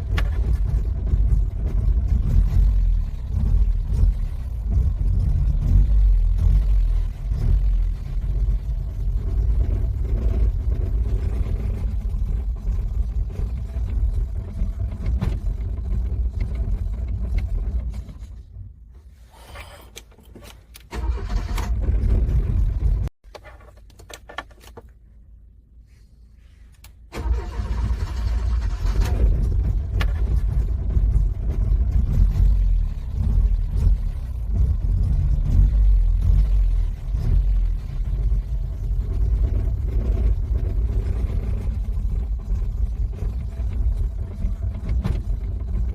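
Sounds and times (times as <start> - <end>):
car engine cranking: 0.0 - 24.9, 26.8 - 45.9.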